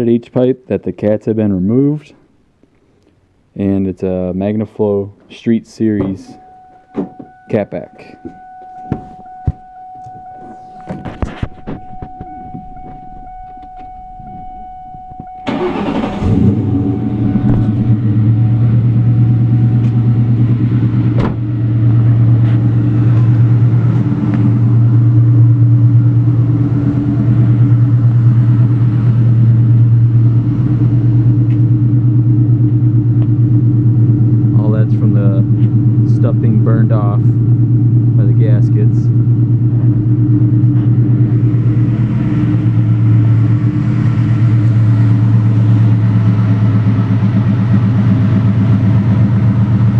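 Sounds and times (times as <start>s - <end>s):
car engine starting and idling: 5.8s - 49.9s
high whine: 5.8s - 49.9s.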